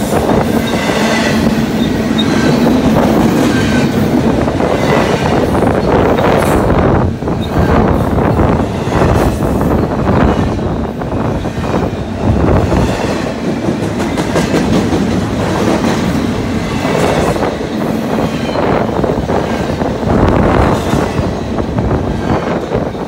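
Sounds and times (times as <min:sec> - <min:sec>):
train wheels rumbling over rails: 0:00.0 - 0:23.0.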